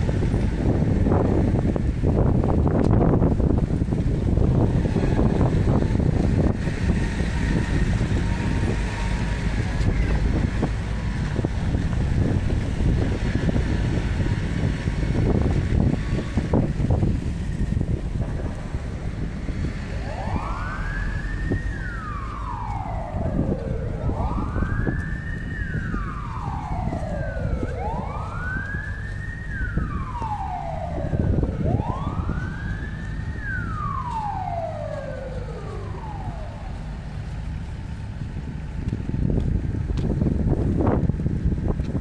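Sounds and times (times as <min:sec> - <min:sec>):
emergency vehicle siren wailing: 0:00.0 - 0:42.0
street traffic rumble: 0:00.0 - 0:42.0.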